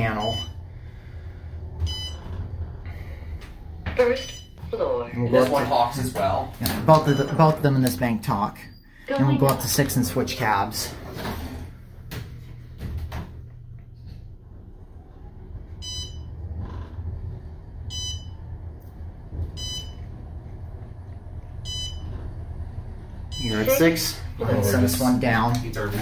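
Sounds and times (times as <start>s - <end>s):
elevator ride rumble: 0.0s - 26.0s.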